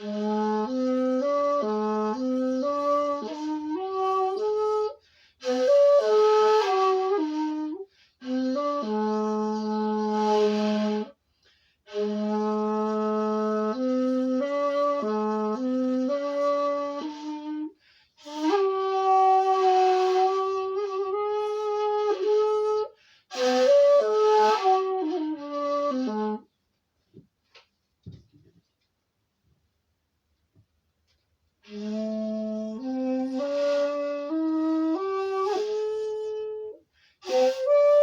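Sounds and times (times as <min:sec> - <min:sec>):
bamboo flute melody: 0:00.0 - 0:11.2, 0:11.8 - 0:26.6, 0:31.6 - 0:38.0.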